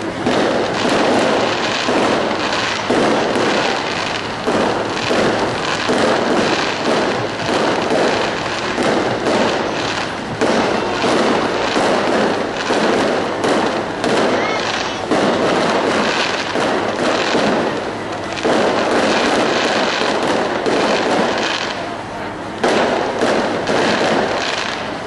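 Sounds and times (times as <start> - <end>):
firework bangs: 0.0 - 25.0
firework crackling: 0.0 - 25.0.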